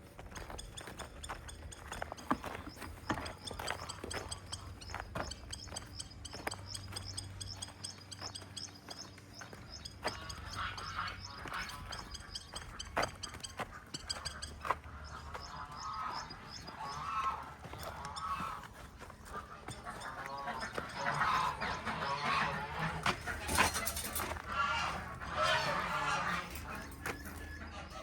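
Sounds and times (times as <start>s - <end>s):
geese honking: 0.0s - 28.0s
small birds chirping: 0.0s - 28.0s.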